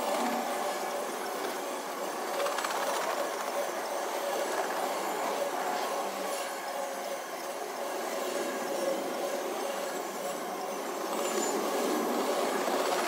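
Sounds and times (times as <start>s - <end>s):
faint ringing squeal: 0.0s - 13.0s
steel wheels on rail: 0.0s - 13.0s.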